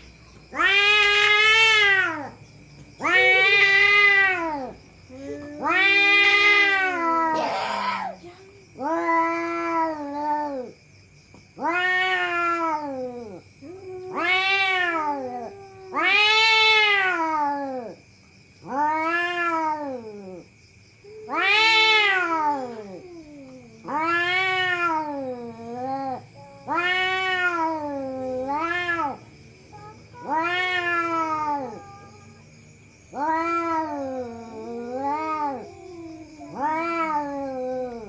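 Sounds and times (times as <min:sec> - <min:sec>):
cat yowling: 0:00.5 - 0:02.4, 0:03.0 - 0:08.2, 0:08.8 - 0:10.8, 0:11.6 - 0:18.0, 0:18.6 - 0:20.5, 0:21.1 - 0:32.5, 0:33.1 - 0:38.0.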